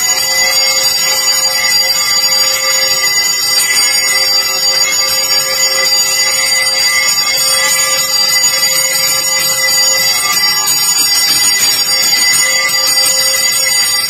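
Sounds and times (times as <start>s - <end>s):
temple bells ringing: 0.0s - 14.0s.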